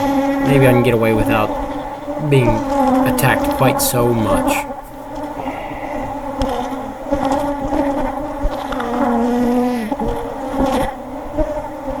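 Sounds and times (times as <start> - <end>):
bees buzzing loudly: 0.0 - 12.0.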